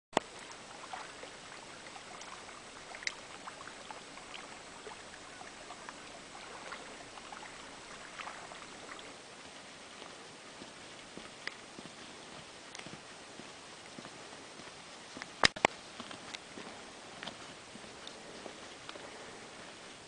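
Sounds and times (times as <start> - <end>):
steady outdoor hiss: 0.2 - 20.0.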